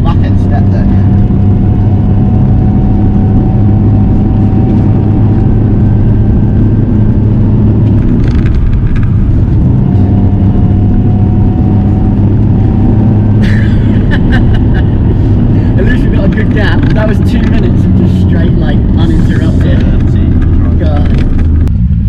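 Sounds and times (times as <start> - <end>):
car engine drone under load: 0.0 - 22.0.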